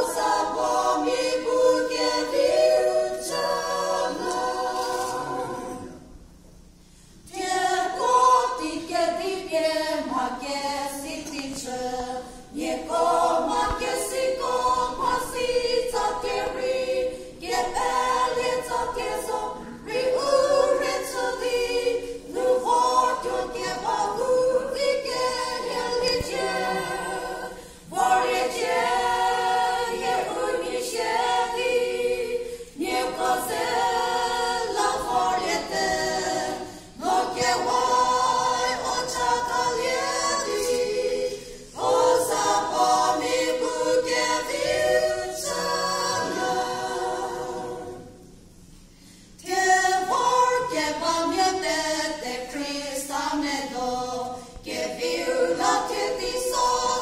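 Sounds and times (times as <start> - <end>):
women singing a cappella: 0.0 - 57.0.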